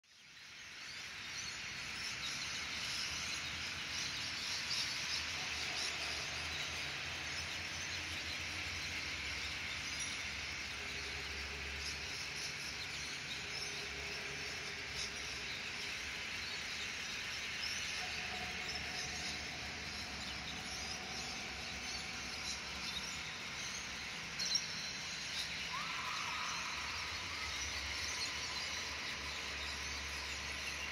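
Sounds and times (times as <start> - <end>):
faint chirps: 0.1 - 30.9
steady high hiss: 1.2 - 30.9.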